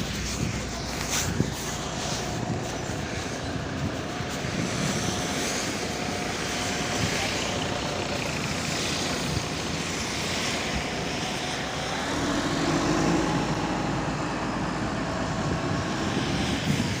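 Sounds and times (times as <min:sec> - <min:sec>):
bus engine drone: 0:00.0 - 0:17.0
bus whine shifting in pitch: 0:00.0 - 0:17.0.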